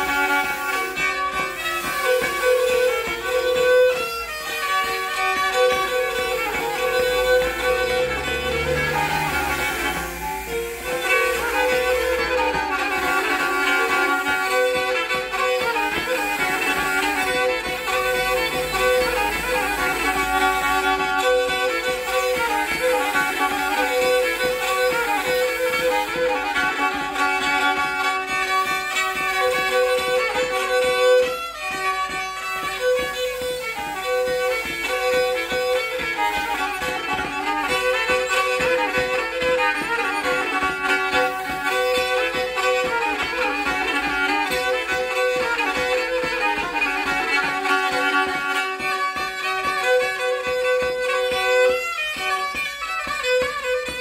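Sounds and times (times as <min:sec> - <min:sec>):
bowed fiddle folk tune: 0:00.0 - 0:54.0.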